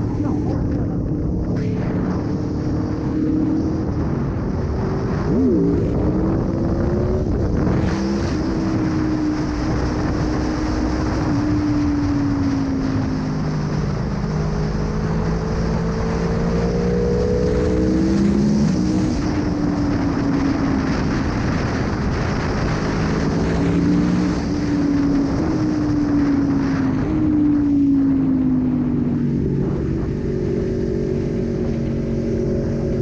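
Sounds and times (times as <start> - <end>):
motorcycle engine revving: 0.0 - 33.0
wind rush: 0.0 - 33.0.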